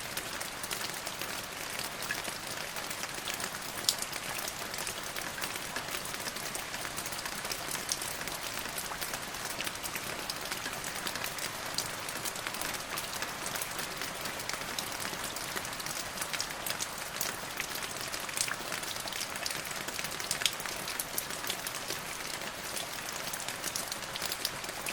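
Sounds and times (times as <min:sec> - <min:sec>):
rain droplets on hard surface: 0:00.0 - 0:24.9.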